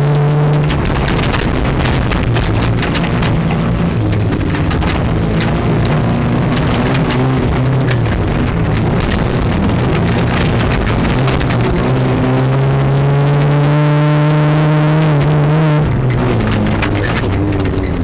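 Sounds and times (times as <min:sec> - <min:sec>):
knocks and rattles of truck: 0:00.0 - 0:18.0
truck engine running hard: 0:00.0 - 0:18.0.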